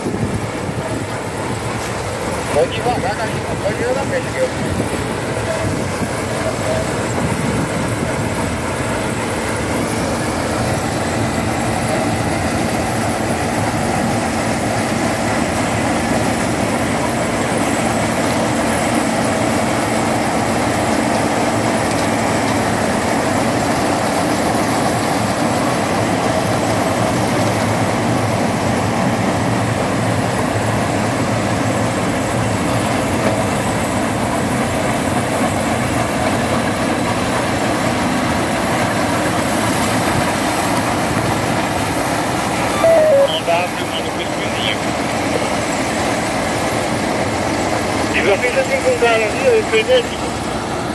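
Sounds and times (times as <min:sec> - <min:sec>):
drone of engines and machinery: 0:00.0 - 0:50.9.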